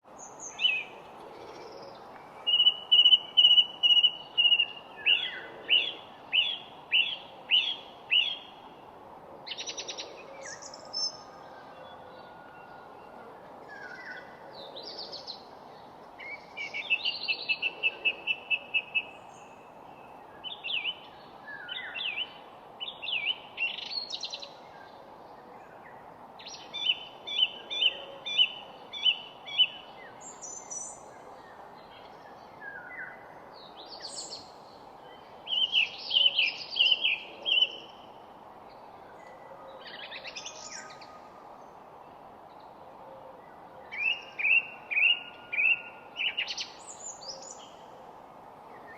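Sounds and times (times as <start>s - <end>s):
low background noise: 0.0s - 48.9s
songbirds chirping and trilling: 0.0s - 48.9s.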